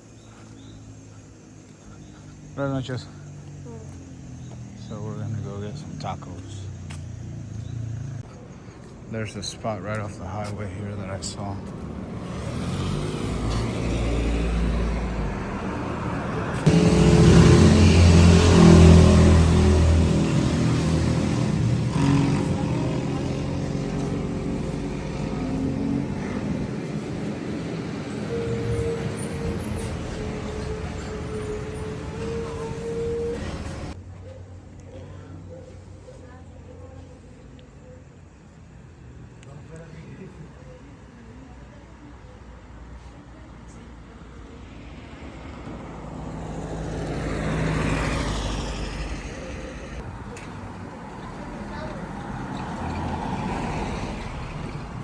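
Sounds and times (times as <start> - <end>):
vehicle engines running: 0.0 - 37.6, 45.2 - 55.0
traffic hum: 0.0 - 55.0.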